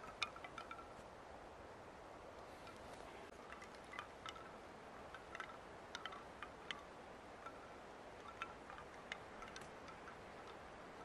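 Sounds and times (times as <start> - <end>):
bamboo wind chimes clacking: 0.0 - 1.2, 2.3 - 11.0.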